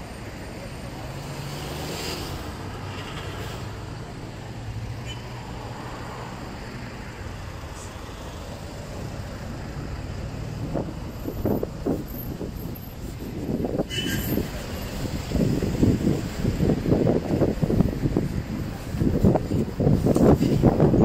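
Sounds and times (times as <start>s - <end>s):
road noise: 0.0s - 21.0s
vehicle engine humming: 0.0s - 21.0s.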